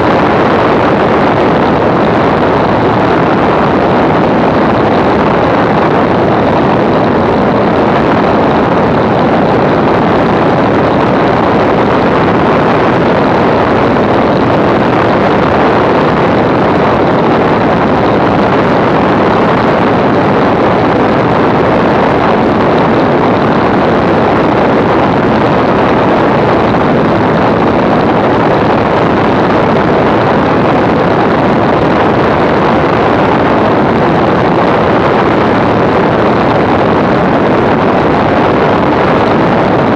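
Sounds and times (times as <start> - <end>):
aircraft engine running: 0.0 - 39.9
wind noise on microphone: 0.0 - 39.9.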